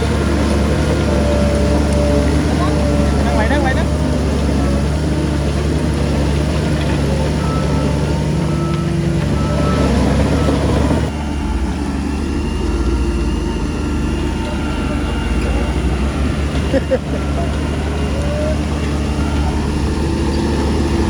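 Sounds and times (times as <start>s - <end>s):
heavy diesel engine rumbling: 0.0s - 21.0s.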